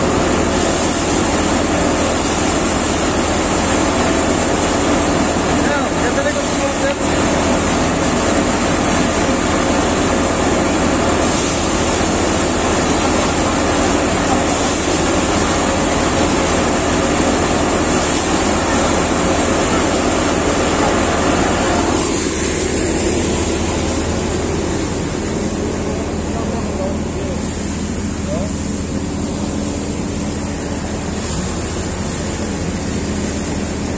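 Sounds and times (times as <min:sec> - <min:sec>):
thresher machine running: 0:00.0 - 0:33.9.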